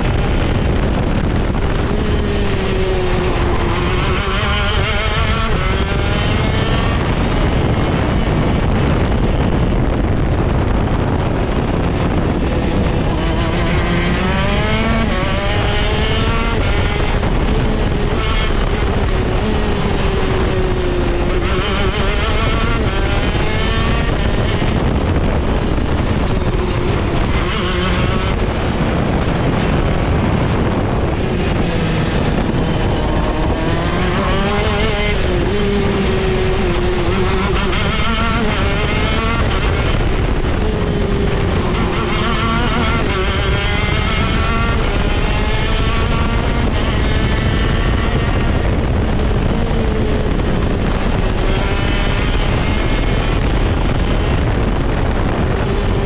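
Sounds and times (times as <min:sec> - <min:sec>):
kart engine revving through gears: 0:00.0 - 0:56.0.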